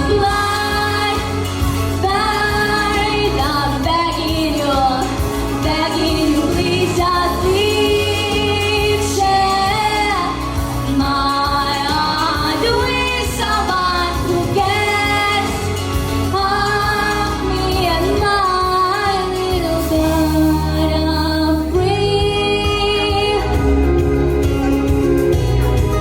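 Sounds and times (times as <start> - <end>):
woman singing: 0.0 - 24.0
instrumental accompaniment with bass: 0.0 - 26.0.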